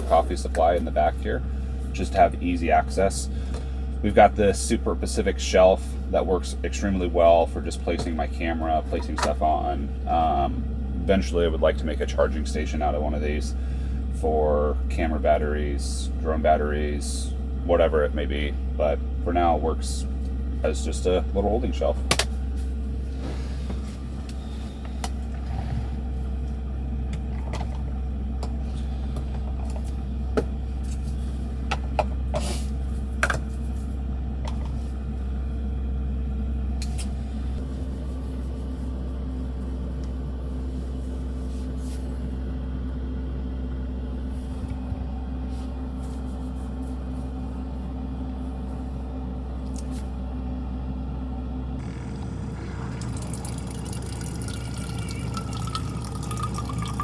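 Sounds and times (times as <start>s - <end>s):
air heater rumble and hum: 0.0s - 57.0s.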